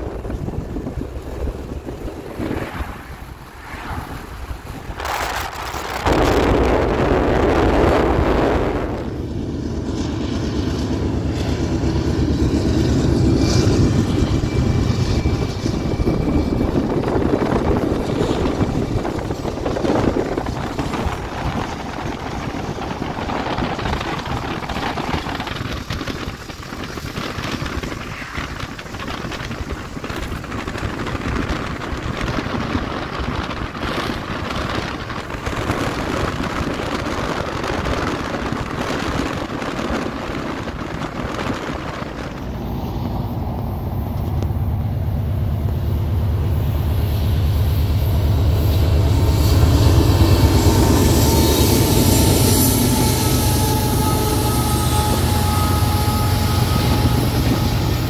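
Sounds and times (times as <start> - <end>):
car wind and road noise: 0.0 - 58.0
diesel locomotive engine: 0.0 - 58.0.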